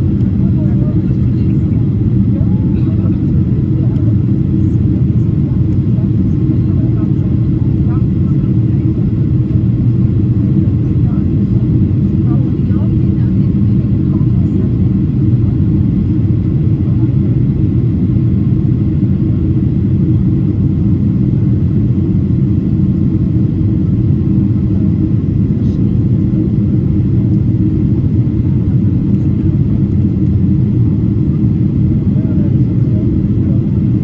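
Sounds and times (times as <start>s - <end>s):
airplane engines rumbling in flight: 0.0s - 34.0s.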